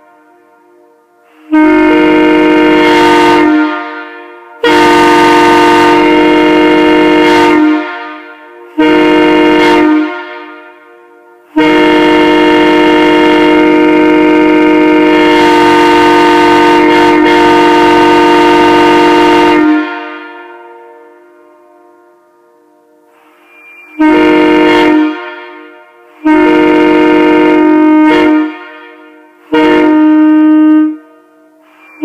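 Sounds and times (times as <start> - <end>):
locomotive air horn blasts: 0.0 - 22.3, 22.9 - 32.0.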